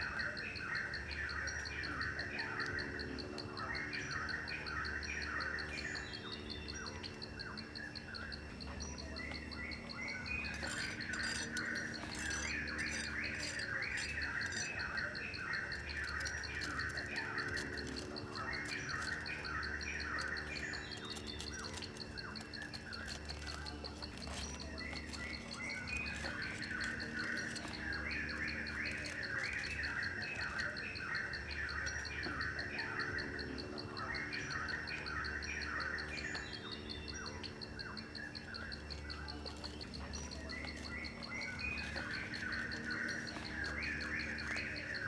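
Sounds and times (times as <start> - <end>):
birds chirping: 0.0 - 45.0
insect trill: 0.0 - 45.0
faint clicks: 1.2 - 45.0.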